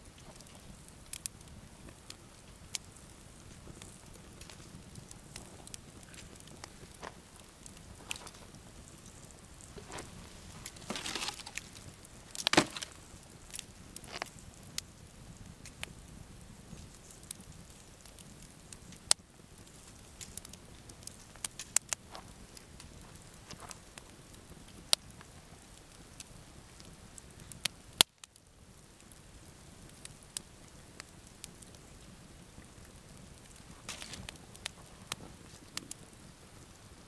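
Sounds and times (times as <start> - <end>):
campfire crackling and popping: 0.0 - 37.0
faint steady hiss: 0.0 - 37.0.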